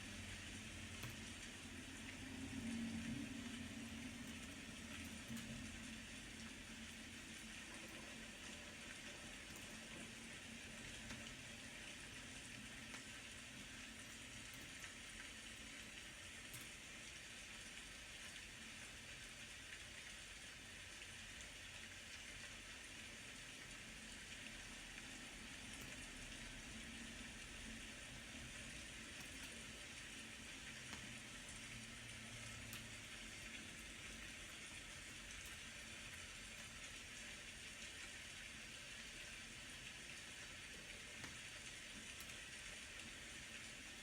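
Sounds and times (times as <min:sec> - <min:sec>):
faint steady rain: 0:00.0 - 0:44.0.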